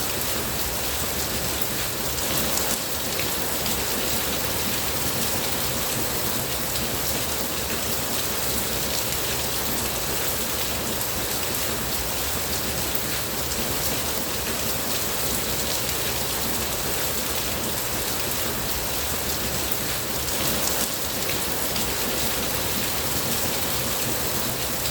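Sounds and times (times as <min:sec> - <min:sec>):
rain pattering: 0:00.0 - 0:24.9.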